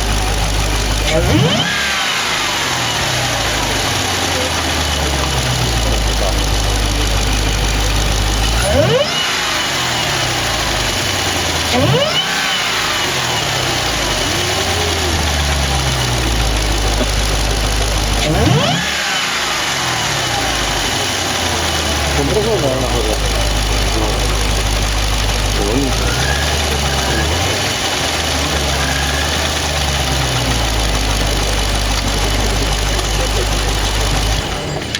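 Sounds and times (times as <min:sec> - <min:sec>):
car engine idling with throttle blips: 0:00.0 - 0:34.9.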